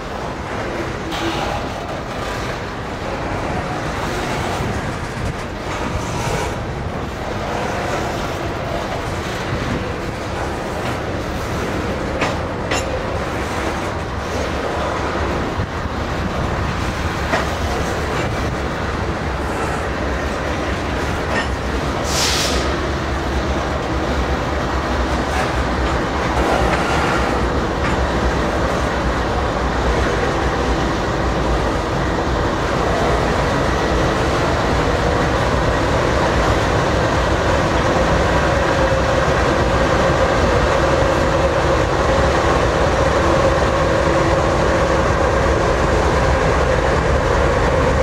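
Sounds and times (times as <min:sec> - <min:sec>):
diesel locomotive engine hum: 0:00.0 - 0:48.0
train wheels clacking on rails: 0:00.0 - 0:48.0.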